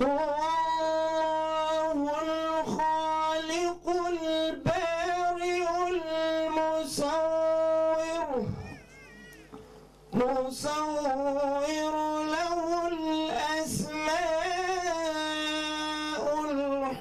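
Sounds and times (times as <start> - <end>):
man chanting recitation: 0.0 - 8.8, 10.1 - 17.0.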